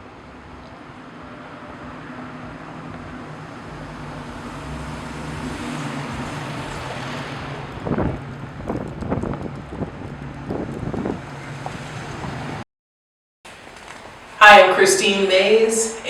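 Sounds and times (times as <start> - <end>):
street traffic hum: 0.0 - 12.6, 13.5 - 16.0.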